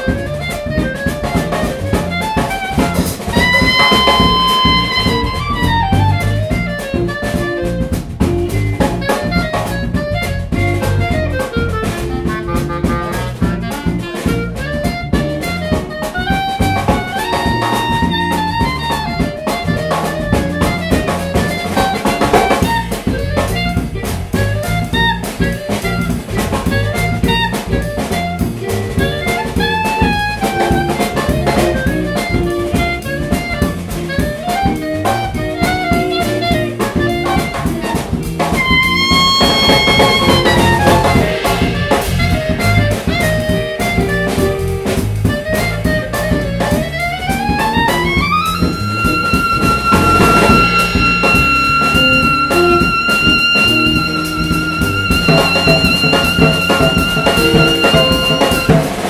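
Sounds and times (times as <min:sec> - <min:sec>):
clarinet melody: 0:00.0 - 0:59.0
drum kit: 0:00.0 - 0:59.0
electric bass: 0:00.0 - 0:59.0
electric guitar: 0:00.0 - 0:59.0.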